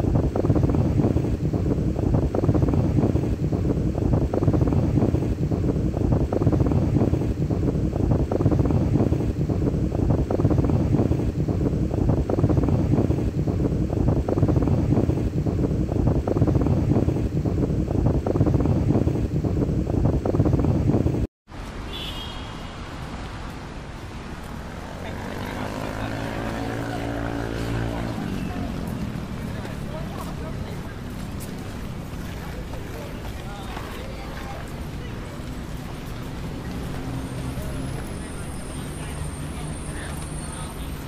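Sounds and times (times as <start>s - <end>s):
wind buffeting microphone: 0.0s - 21.3s, 22.9s - 41.0s.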